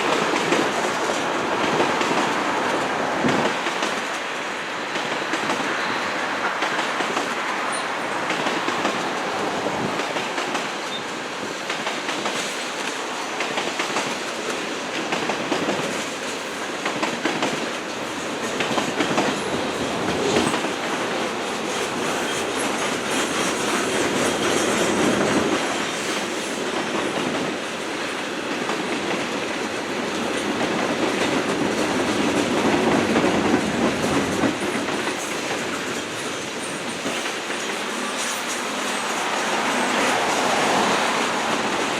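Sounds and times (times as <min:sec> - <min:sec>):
train cars rolling past: 0:00.0 - 0:41.9.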